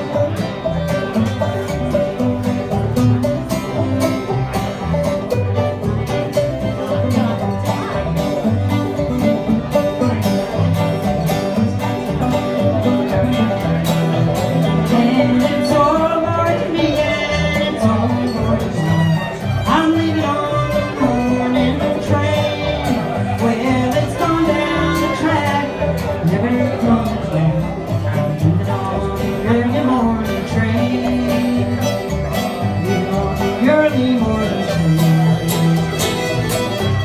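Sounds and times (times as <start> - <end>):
acoustic string band playing: 0.0 - 37.0.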